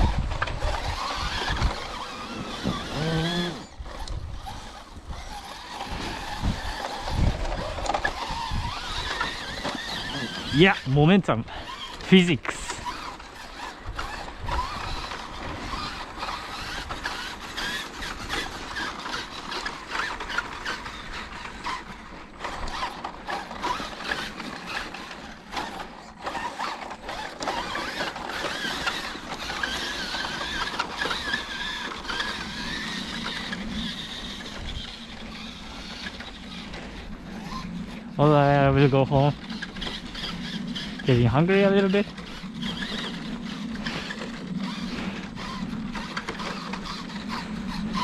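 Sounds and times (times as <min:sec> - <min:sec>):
toy truck motor whining: 0:00.0 - 0:48.0.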